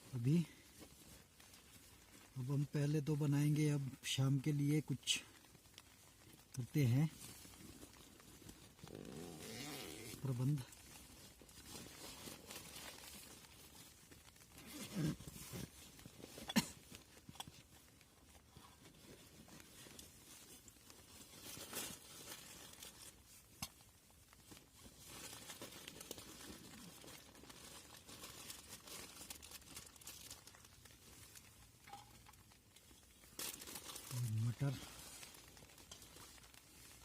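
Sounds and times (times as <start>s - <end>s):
plastic packaging crinkling: 3.3s - 37.0s.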